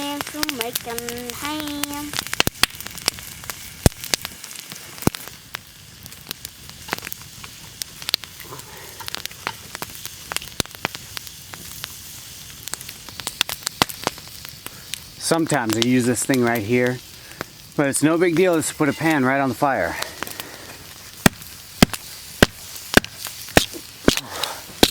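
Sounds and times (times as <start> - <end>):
bacon sizzling in a pan: 0.0 - 24.9
campfire popping and crackling: 0.0 - 24.9.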